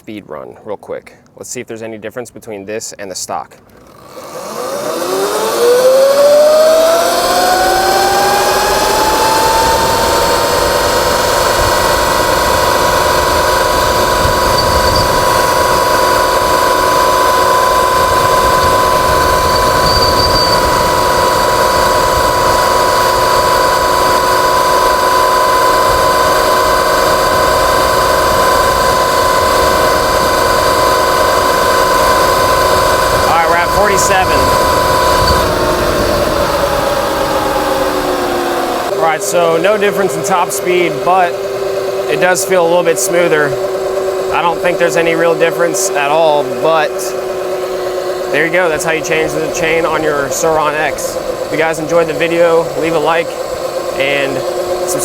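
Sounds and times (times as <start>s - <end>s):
electric motorbike whining: 3.6s - 55.0s.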